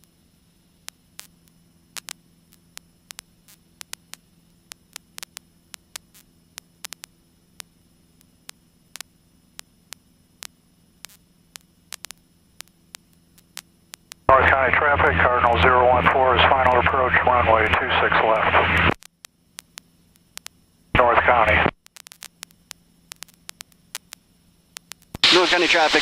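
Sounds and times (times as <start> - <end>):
faint electrical hum: 0.0 - 26.0
static clicks and crackles: 0.0 - 26.0.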